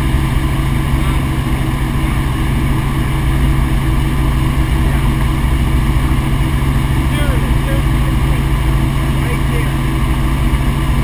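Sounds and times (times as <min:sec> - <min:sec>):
helicopter flying: 0:00.0 - 0:11.0.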